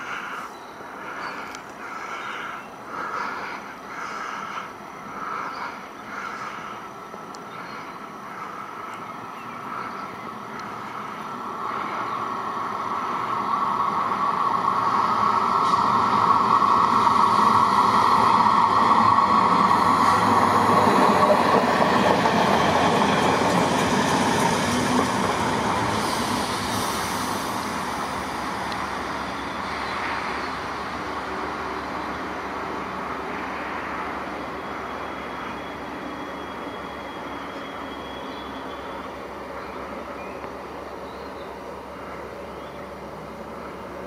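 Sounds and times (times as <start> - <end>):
train running: 0.0 - 44.0.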